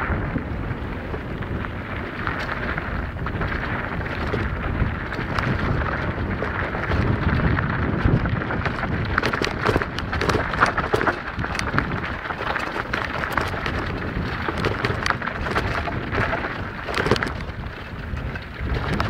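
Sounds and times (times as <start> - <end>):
bike rattling: 0.0 - 19.0
wind on microphone: 0.0 - 19.0
tyres crunching over stones: 0.8 - 19.0.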